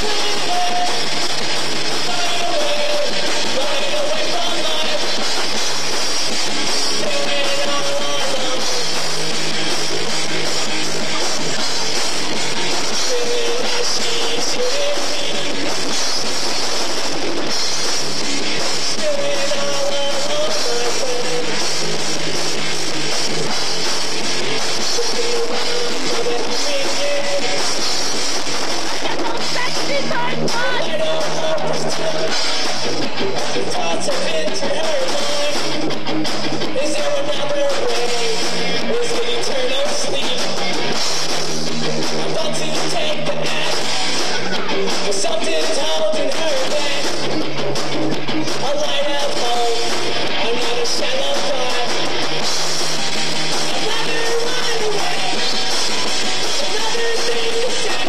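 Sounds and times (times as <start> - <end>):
drum kit: 0.0 - 58.0
guitar: 0.0 - 58.0.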